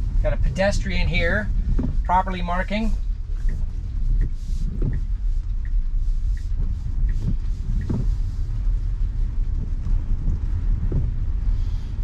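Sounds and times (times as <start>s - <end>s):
tyre and road rumble: 0.0s - 12.0s.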